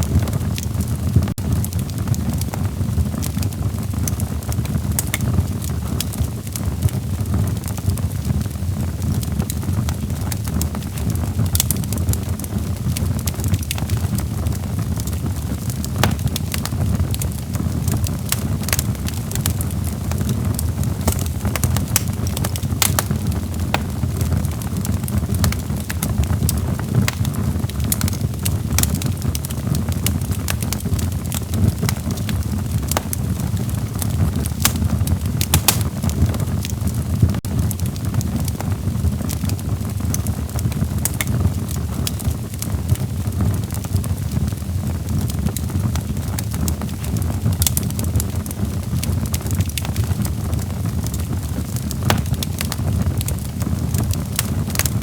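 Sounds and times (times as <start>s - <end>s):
burning logs crackling and popping: 0.0s - 55.0s
flames rumbling: 0.0s - 55.0s.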